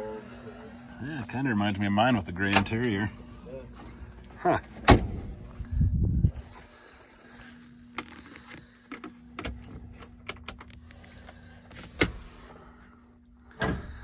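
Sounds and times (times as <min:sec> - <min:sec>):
low electric hum: 0:00.0 - 0:14.0.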